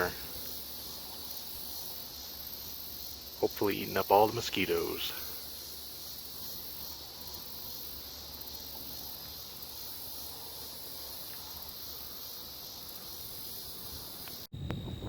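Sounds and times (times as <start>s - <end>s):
shrill insect chorus: 0.0s - 15.0s.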